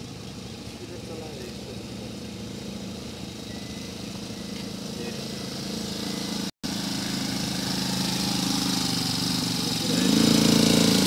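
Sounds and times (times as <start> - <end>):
quad bike engine approaching: 0.0 - 11.0.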